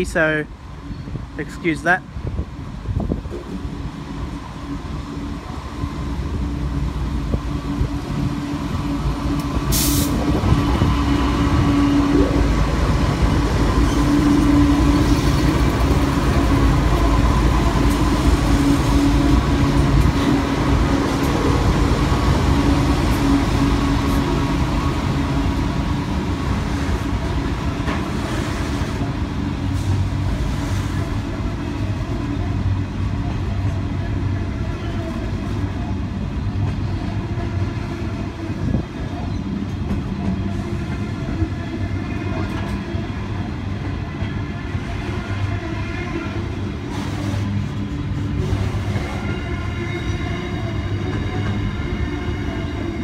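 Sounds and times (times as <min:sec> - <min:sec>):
diesel locomotive engine drone: 0:00.0 - 0:53.0
wagons rumbling on rails: 0:00.0 - 0:53.0.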